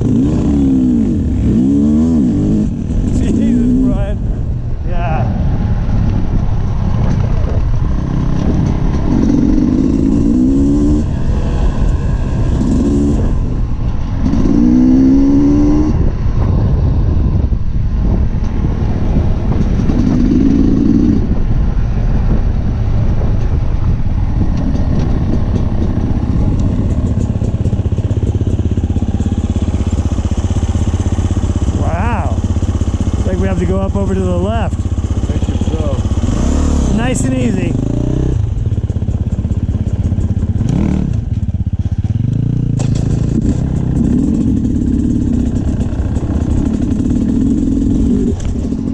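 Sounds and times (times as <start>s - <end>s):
dirt bike engine revving: 0.0s - 21.6s, 24.2s - 48.9s.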